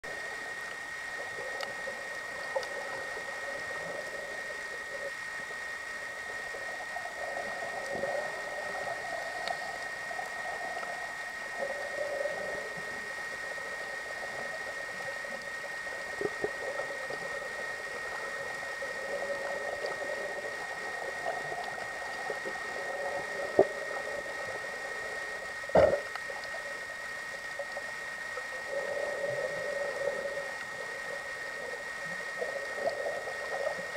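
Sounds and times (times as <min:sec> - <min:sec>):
low wavering hum: 0:00.0 - 0:33.9
steady high whine: 0:00.0 - 0:33.9
faint scattered clicks: 0:00.2 - 0:33.9.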